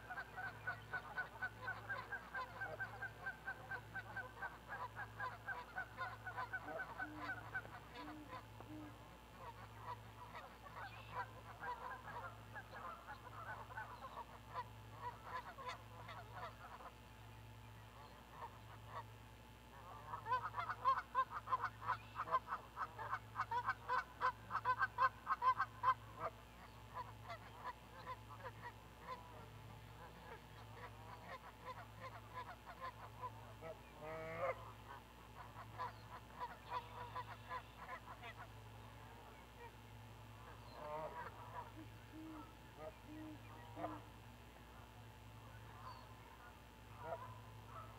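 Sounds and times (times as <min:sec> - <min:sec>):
geese honking: 0:00.0 - 0:17.0, 0:17.9 - 0:19.1, 0:19.7 - 0:47.9.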